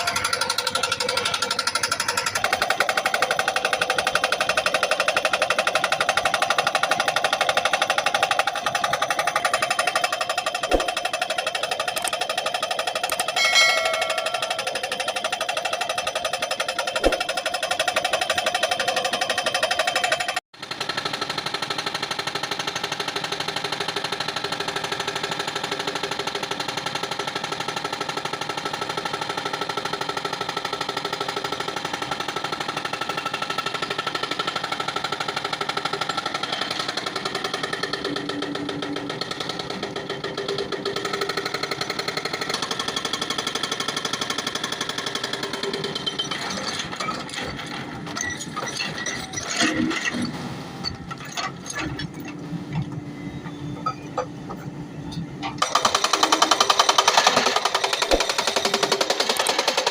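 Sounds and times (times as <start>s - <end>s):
power hammer chipping stone: 0.0s - 50.3s, 55.6s - 59.9s.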